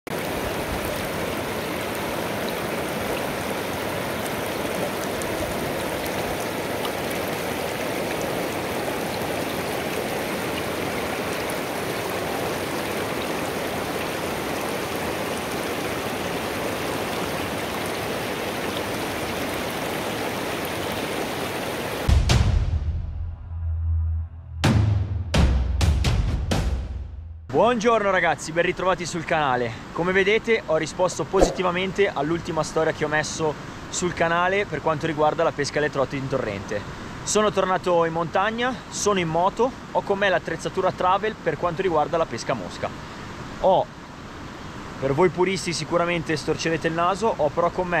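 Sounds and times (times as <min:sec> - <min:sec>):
water rushing over rocks: 0:00.1 - 0:22.1, 0:31.0 - 0:48.0.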